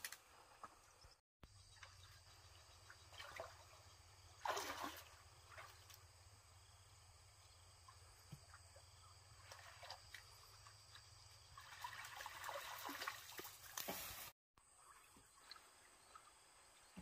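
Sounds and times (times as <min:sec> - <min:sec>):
pond water splashing: 0:01.4 - 0:17.0.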